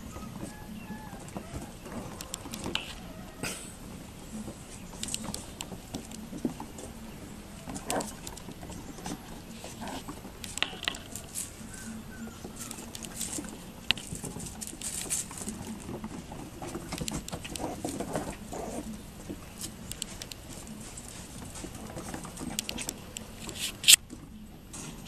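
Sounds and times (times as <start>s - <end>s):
puppy paws pattering on wooden deck: 0.0s - 3.2s, 4.3s - 23.7s.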